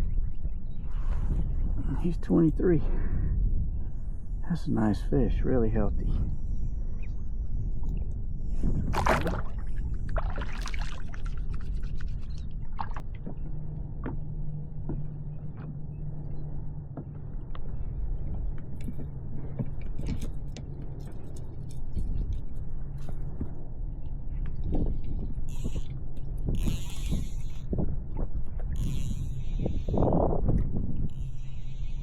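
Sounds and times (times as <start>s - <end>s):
wind buffeting microphone: 0.0s - 15.5s, 16.1s - 32.0s
low steady hum: 0.0s - 32.0s.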